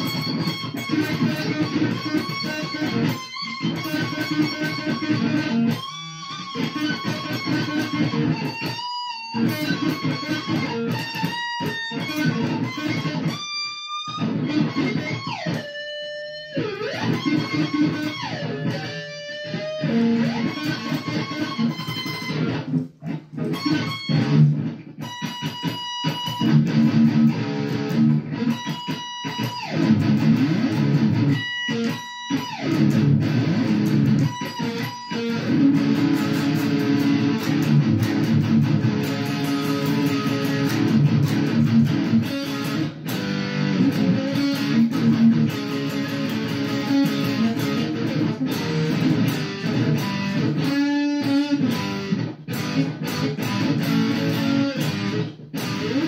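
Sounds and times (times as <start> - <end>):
electric guitar riffs: 0.0 - 56.0.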